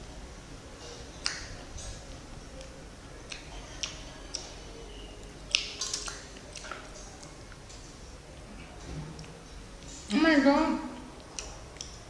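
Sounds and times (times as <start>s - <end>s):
chewing fruit wet clicks: 0.8s - 10.0s, 11.0s - 12.0s.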